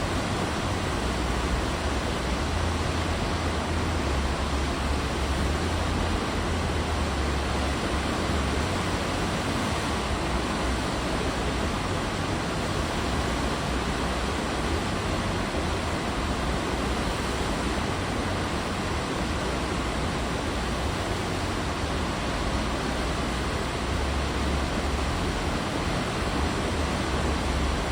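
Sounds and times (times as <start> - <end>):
heavy low rumble: 0.0 - 27.9
water rushing along ship hull: 0.0 - 27.9.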